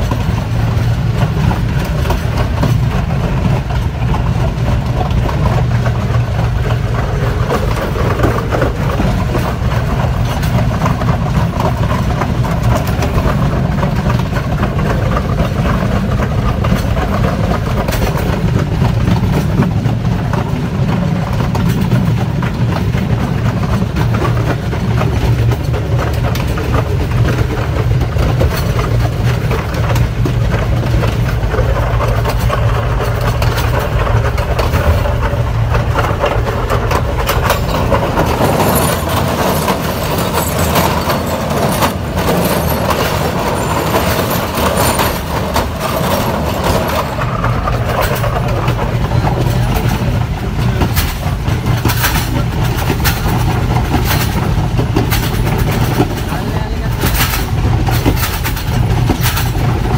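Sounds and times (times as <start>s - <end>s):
train engine and wheel rumble: 0.0s - 59.9s
wheels clacking over rails: 0.0s - 59.9s.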